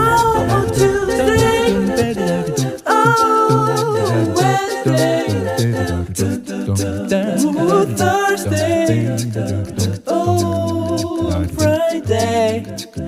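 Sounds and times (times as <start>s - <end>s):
song with vocals and beat: 0.0s - 13.0s.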